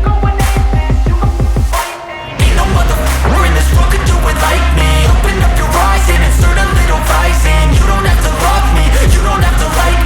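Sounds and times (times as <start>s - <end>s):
heavy bass and kick drums: 0.0s - 10.0s
hip hop backing music: 0.0s - 10.0s.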